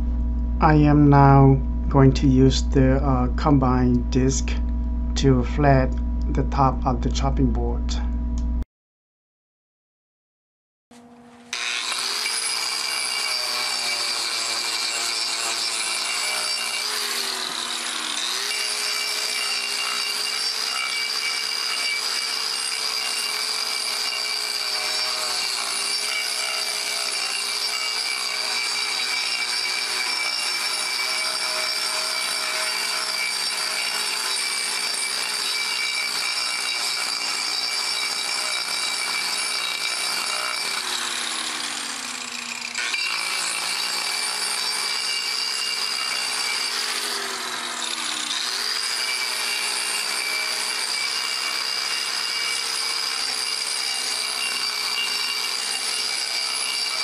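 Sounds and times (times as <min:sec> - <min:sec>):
angle grinder grinding wood: 0:11.0 - 0:57.0.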